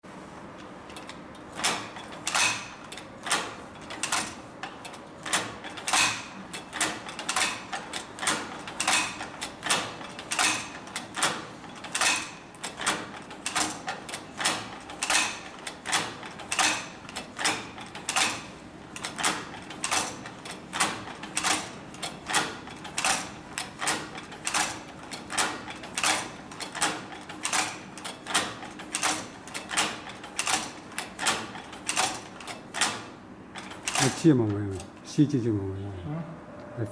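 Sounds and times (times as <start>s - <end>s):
sewing machine clacking: 0.9s - 35.0s.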